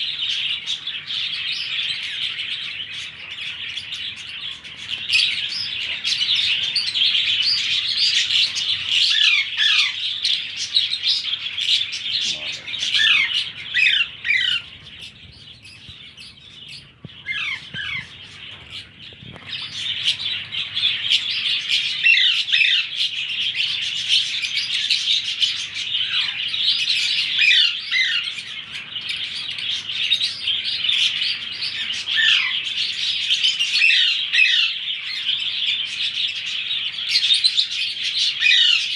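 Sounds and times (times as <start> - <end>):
parrot chicks chirping: 0.0 - 38.9.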